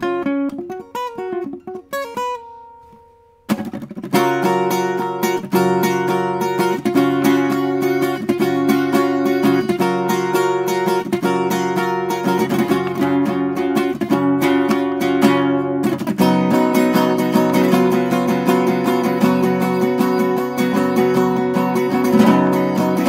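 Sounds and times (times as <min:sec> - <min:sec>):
acoustic guitar riff: 0:00.0 - 0:23.0.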